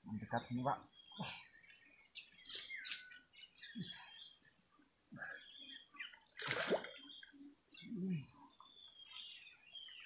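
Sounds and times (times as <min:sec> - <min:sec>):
bird chirps: 0:00.1 - 0:10.0.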